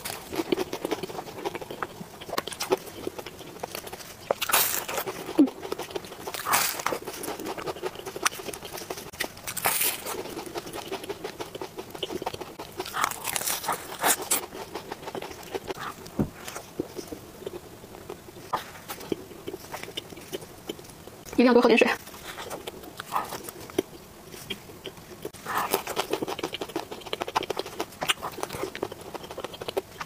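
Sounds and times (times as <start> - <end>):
crunching and chewing pastry: 0.0 - 21.4, 22.0 - 30.0.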